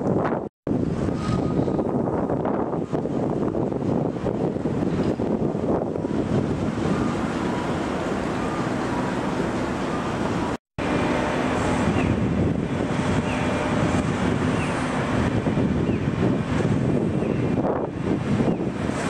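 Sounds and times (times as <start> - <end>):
wind buffeting microphone: 0.0 - 19.0
distant engine and traffic: 0.7 - 19.0.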